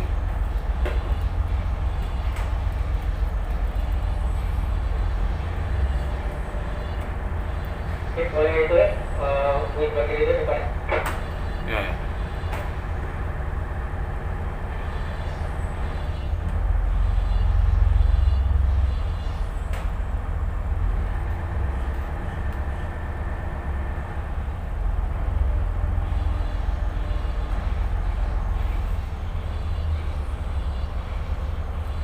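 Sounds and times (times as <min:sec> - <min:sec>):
diesel engines rumbling: 0:00.0 - 0:32.0.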